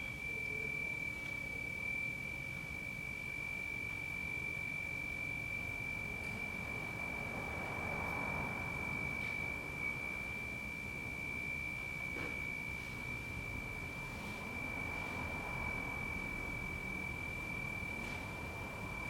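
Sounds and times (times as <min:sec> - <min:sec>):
high-pitched pure tone: 0:00.0 - 0:19.0.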